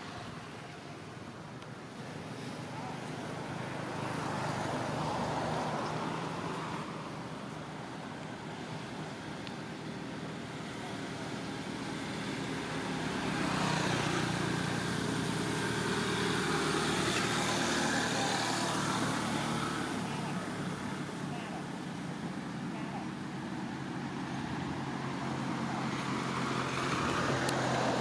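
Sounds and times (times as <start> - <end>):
passing vehicle engine: 1.8 - 28.0.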